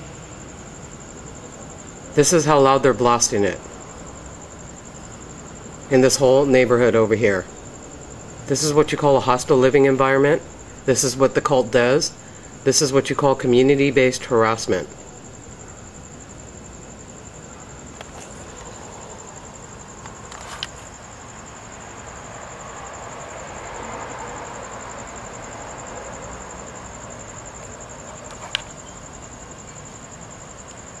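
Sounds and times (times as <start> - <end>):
crickets chirping: 0.0 - 31.0
distant traffic rumble: 0.0 - 31.0.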